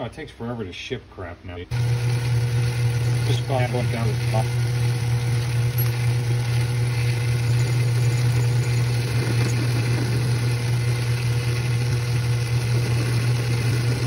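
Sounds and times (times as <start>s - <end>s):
metal lathe humming: 1.7s - 14.0s.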